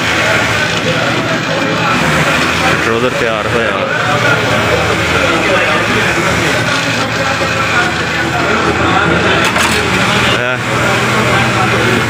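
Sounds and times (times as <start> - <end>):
factory machines running: 0.0 - 12.0.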